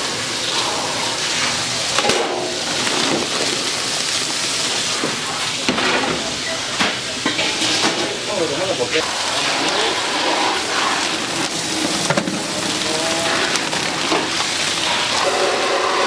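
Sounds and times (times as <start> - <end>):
steam hissing from pot: 0.0 - 16.0.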